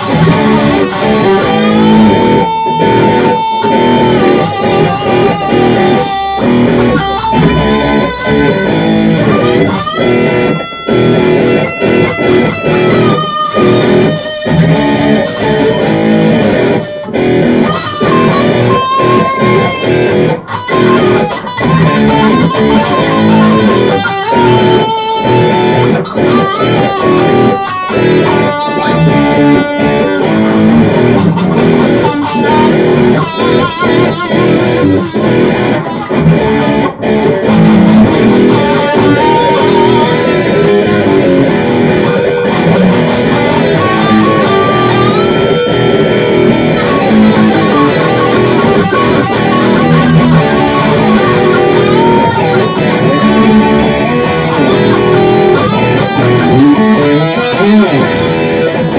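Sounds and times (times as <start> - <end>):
hard rock electric guitar lead: 0.0 - 58.9
low accompaniment and steady beat: 0.0 - 58.9.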